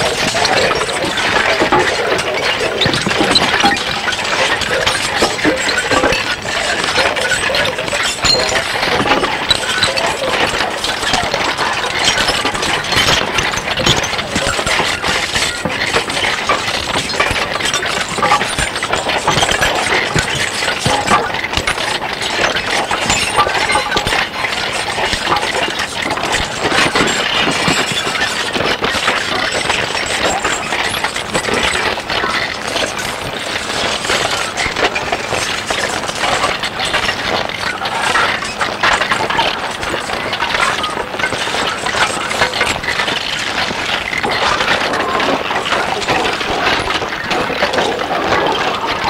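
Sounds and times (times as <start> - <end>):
dense clatter of clicks and rattles: 0.0 - 49.0.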